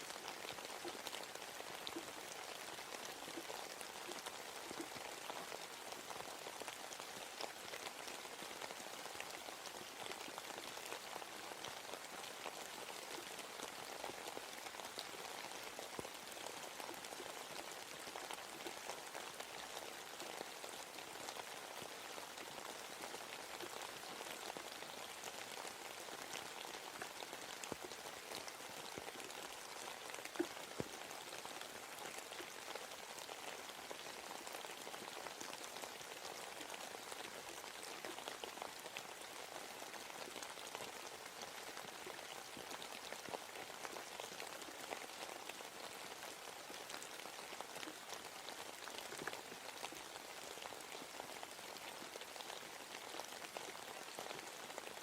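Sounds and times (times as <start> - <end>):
patter of raindrops: 0.0 - 55.0
rain falling in forest: 0.0 - 55.0.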